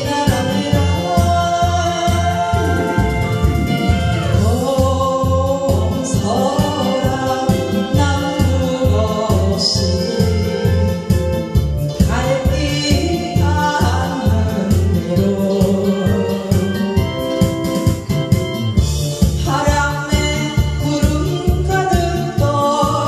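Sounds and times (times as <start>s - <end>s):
woman singing into microphone: 0.0s - 11.1s, 11.8s - 17.6s, 19.3s - 23.0s
backing track with bass beat: 0.0s - 23.0s
keyboard accompaniment: 0.0s - 23.0s.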